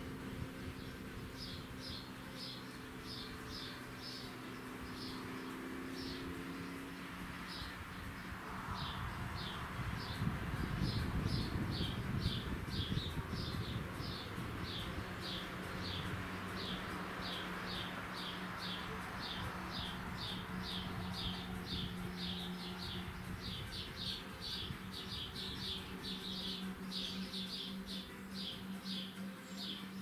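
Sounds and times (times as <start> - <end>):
steady low hum: 0.0 - 30.0
bird chirping: 0.4 - 30.0.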